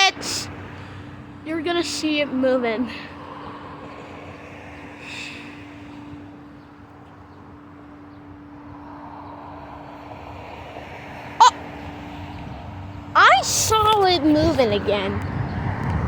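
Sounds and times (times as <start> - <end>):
distant engine rumble: 0.0 - 16.0.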